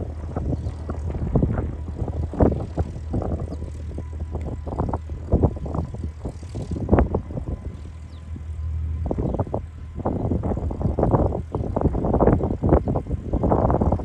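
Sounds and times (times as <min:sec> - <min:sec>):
distant jet engine rumble: 0:00.0 - 0:14.0
wind buffeting microphone: 0:00.0 - 0:14.0.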